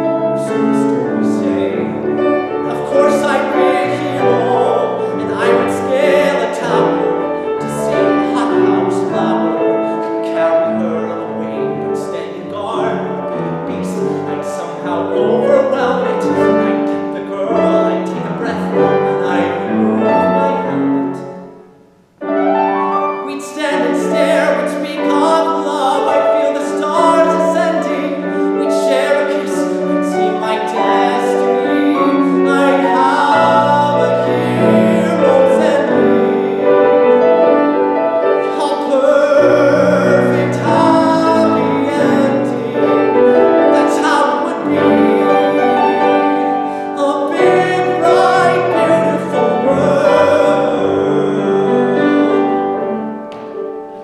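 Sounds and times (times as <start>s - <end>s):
man singing: 0.0s - 21.4s, 23.2s - 53.0s
grand piano accompaniment: 0.0s - 54.0s.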